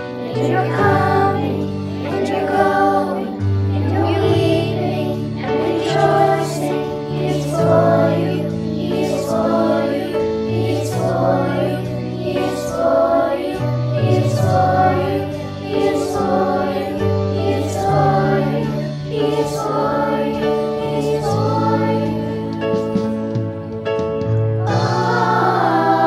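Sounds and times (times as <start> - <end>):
children's choir singing: 0.0 - 26.0
accompaniment holding low notes: 0.2 - 26.0.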